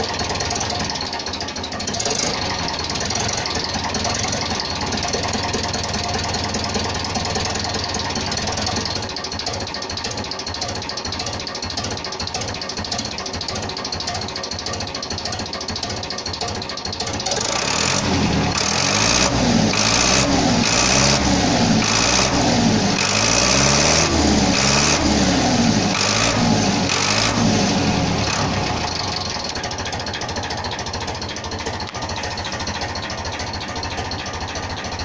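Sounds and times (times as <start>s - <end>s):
tractor diesel engine revving: 0.0s - 35.0s.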